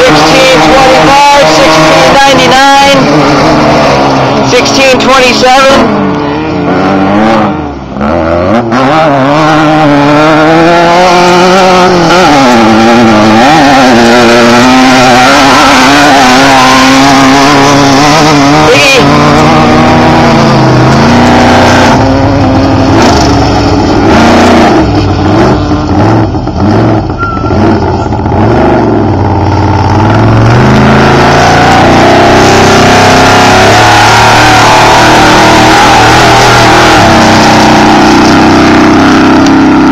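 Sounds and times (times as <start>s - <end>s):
race vehicle engines revving: 0.0s - 39.9s.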